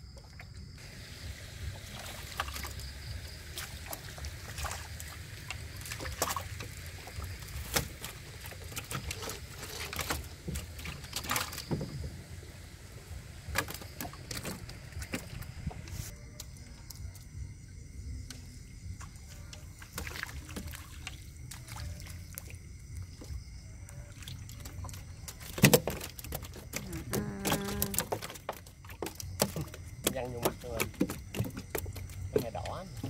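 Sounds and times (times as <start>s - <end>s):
water splashing and sloshing: 0.0s - 33.0s.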